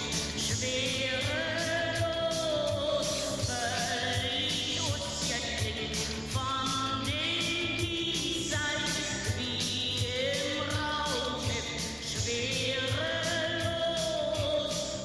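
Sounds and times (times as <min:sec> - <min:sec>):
song with steady beat: 0:00.0 - 0:15.0.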